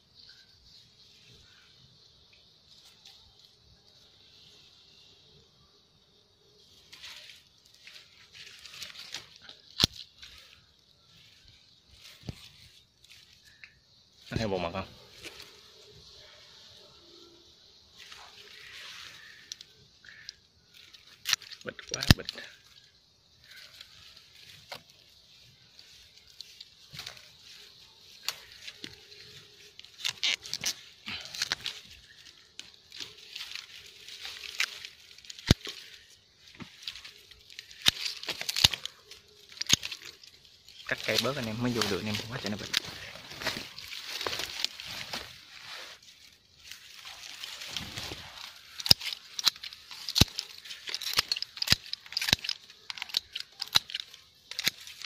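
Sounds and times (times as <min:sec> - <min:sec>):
leaves rustling: 0:00.0 - 0:55.0
twigs snapping and cracking: 0:06.5 - 0:55.0.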